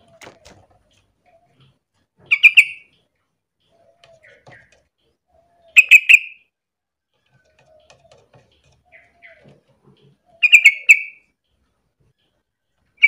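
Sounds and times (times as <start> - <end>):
bulbul calling: 0.0 - 6.5, 7.2 - 12.4
faint soft bird chirps: 0.0 - 13.0.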